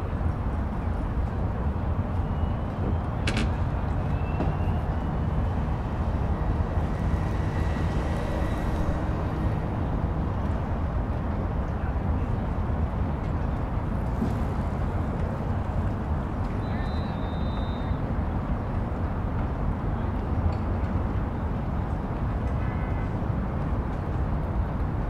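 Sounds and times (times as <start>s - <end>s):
distant road traffic: 0.0s - 25.0s.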